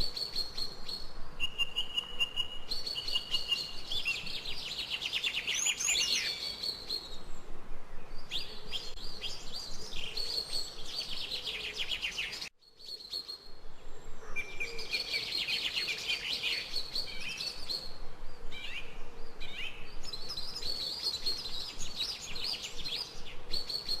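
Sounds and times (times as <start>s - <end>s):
songbirds chirping and trilling: 0.0s - 24.0s
steady background hiss: 0.0s - 24.0s.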